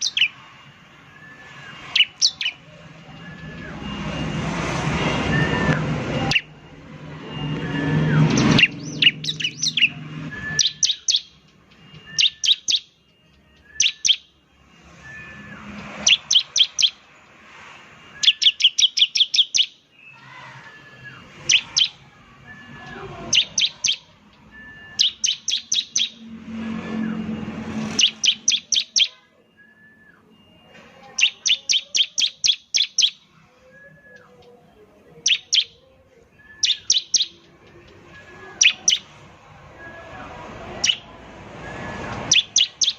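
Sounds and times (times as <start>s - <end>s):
bird singing sharp high notes: 0.0s - 42.9s.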